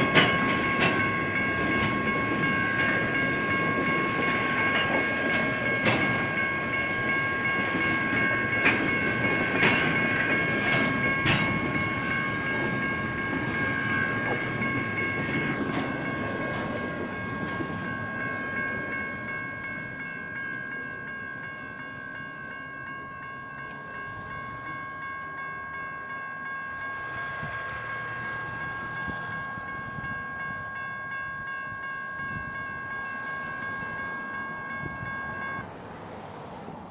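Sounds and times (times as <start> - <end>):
crossing bells ringing: 0.0 - 36.9
freight train rumbling: 0.0 - 36.9.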